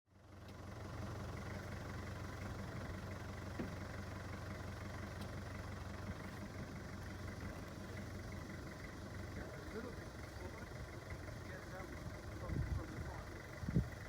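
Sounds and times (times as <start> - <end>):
vehicle engine idling: 0.1 - 14.0.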